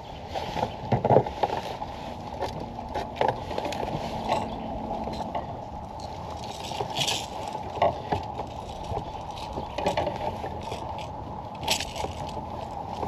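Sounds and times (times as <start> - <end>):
water lapping against hull: 0.1 - 13.0.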